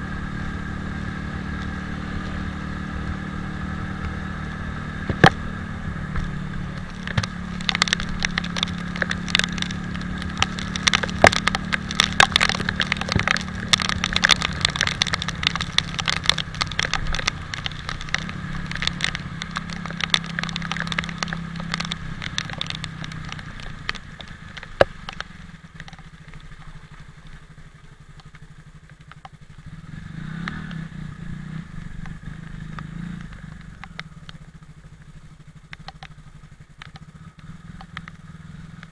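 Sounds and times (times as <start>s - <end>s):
motorcycle engine running: 0.0s - 38.9s
rain striking camera: 0.2s - 38.9s.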